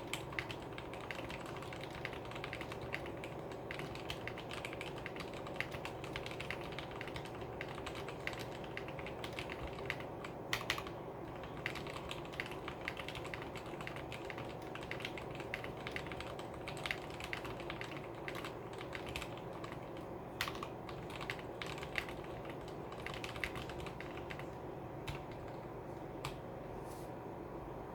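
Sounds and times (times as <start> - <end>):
mechanical keyboard typing: 0.0 - 25.6.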